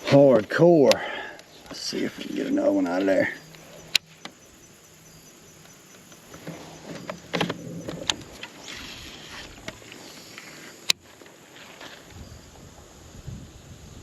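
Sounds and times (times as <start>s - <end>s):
fishing gear clicks and knocks: 0.0s - 12.0s
faint steady hum: 0.1s - 14.0s.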